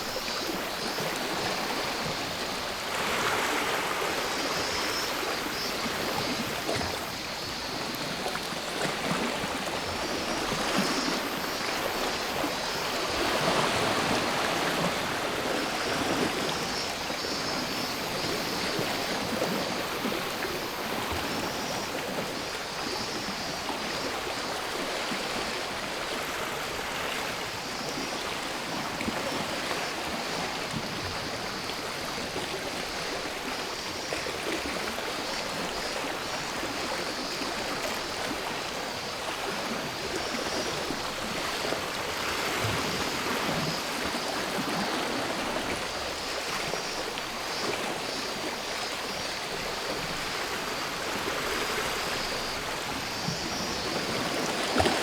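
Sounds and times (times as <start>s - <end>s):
cicada drone: 0.0s - 55.0s.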